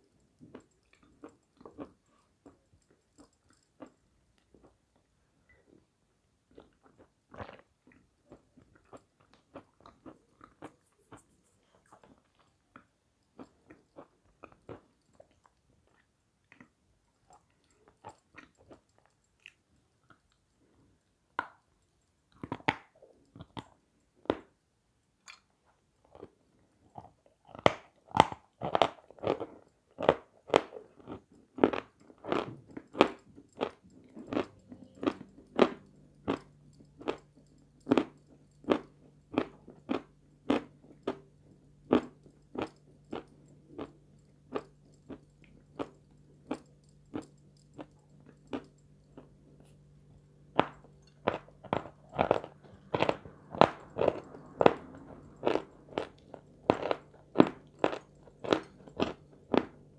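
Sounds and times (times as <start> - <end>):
person chewing: 0.2 - 4.8, 6.5 - 21.7, 25.3 - 49.8, 50.5 - 59.9.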